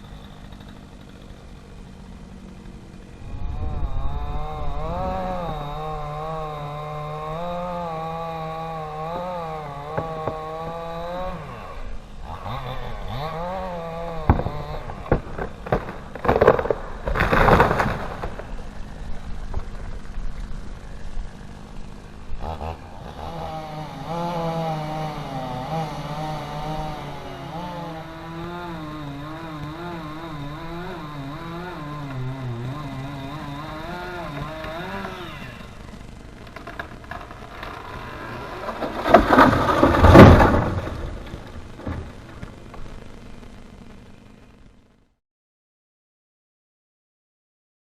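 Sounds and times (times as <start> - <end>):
chainsaw engine running: 0.0 - 43.7.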